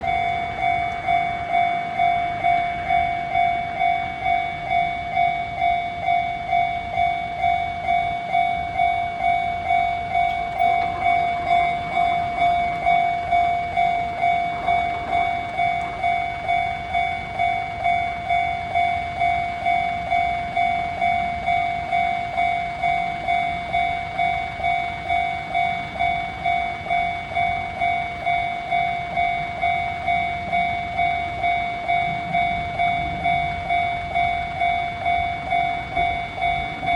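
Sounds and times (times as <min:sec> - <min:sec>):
level-crossing alarm ringing: 0:00.0 - 0:36.9.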